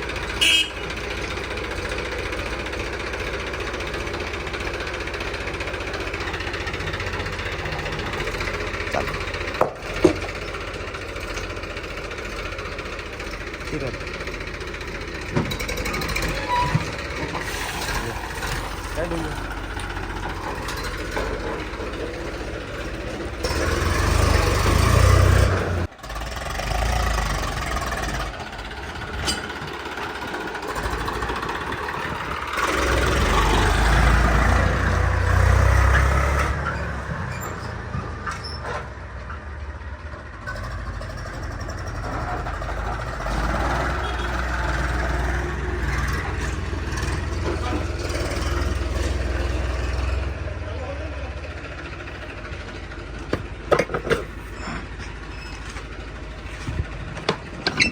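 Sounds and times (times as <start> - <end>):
digger diesel engine working: 0.0 - 57.9.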